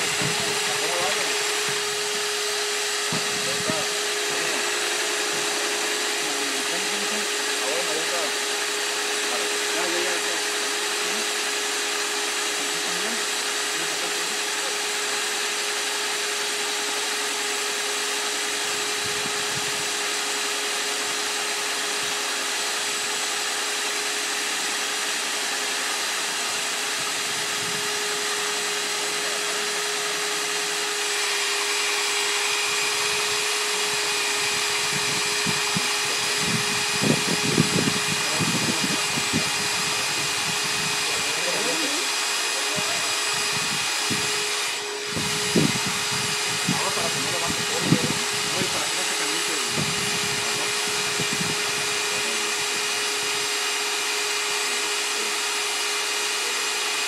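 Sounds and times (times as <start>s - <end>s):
higher whine: 0.0s - 56.8s
core drill motor hum and whine: 0.0s - 57.0s.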